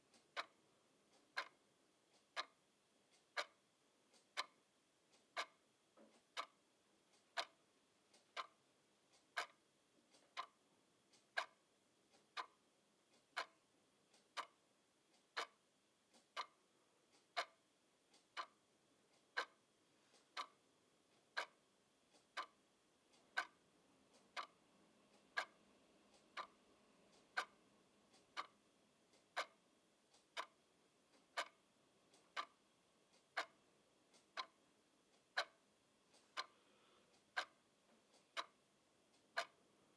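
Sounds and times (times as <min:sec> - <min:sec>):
clock ticking: 0:00.0 - 0:39.7.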